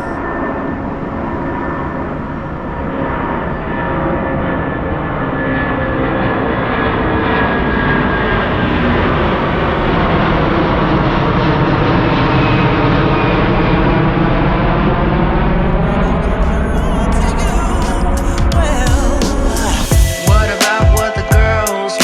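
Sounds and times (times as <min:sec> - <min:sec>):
jet airliner engine roar: 0:00.0 - 0:22.0.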